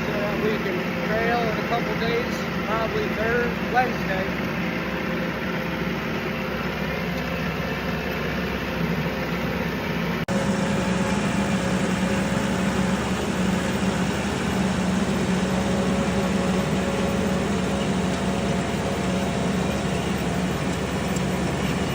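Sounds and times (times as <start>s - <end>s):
tractor engine running: 0.0s - 21.9s.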